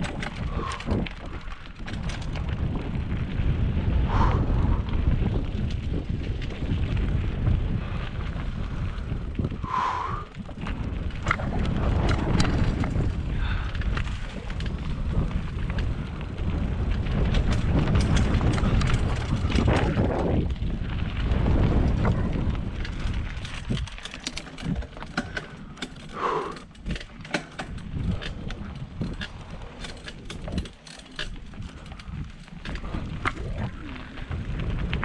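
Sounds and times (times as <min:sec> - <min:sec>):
bike rattles and clicks: 0:00.0 - 0:35.0
bike tyre rumble: 0:00.0 - 0:35.0
wind on microphone: 0:00.0 - 0:35.0.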